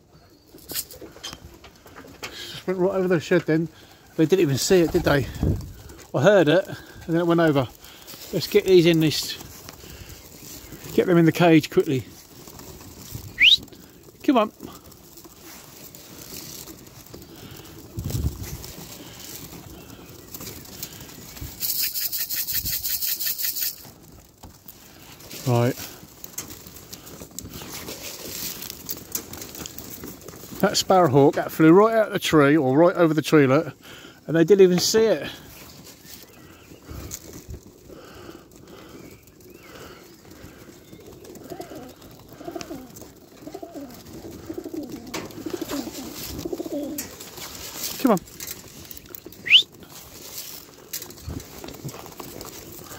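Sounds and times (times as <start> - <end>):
pigeons flapping wings: 0.5 - 31.4, 33.3 - 52.9.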